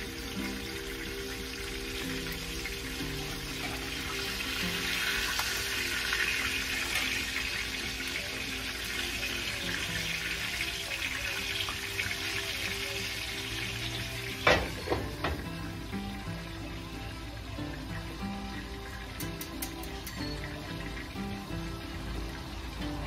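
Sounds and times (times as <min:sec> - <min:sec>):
chicken sizzling in a skillet: 0:00.0 - 0:23.0.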